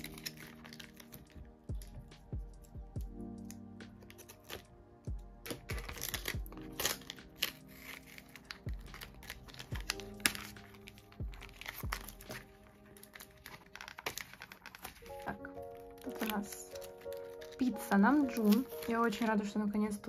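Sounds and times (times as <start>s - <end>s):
tape tearing: 0.0s - 2.0s, 3.4s - 19.2s
cardboard packaging rustling: 0.0s - 19.3s
plastic sleeves crinkling: 0.0s - 20.0s
soft background music: 0.0s - 20.0s.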